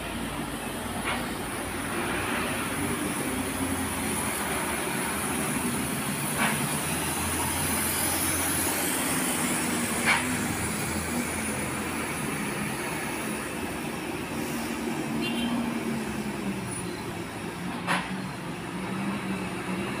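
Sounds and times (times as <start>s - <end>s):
truck diesel engines passing: 0.0s - 20.0s.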